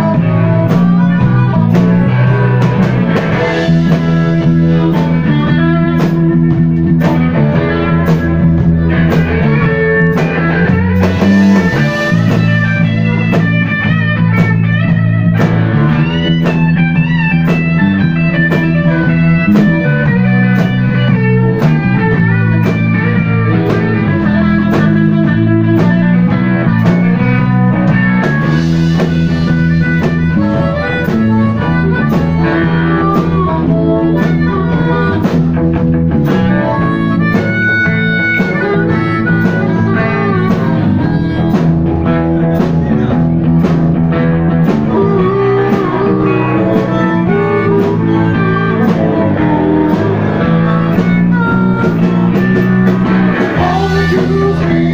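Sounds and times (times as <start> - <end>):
blues-rock band playing: 0.0 - 54.9
electric guitar: 0.0 - 54.9.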